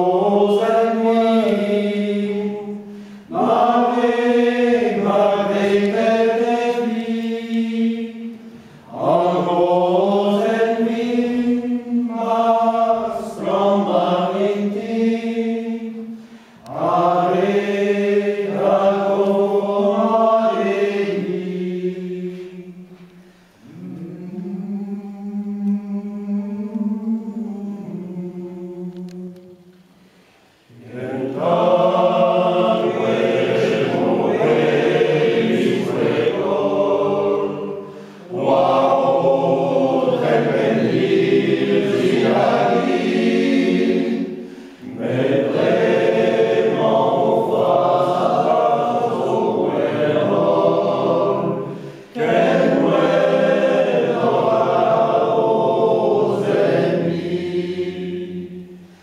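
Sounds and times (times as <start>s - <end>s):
men's choir singing unaccompanied: 0.0s - 29.8s, 30.6s - 59.0s.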